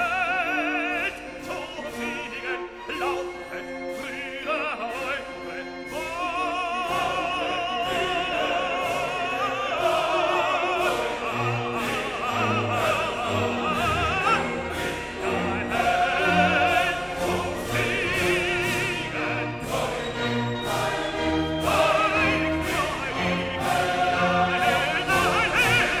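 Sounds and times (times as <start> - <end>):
operatic singing with orchestra: 0.0 - 26.0.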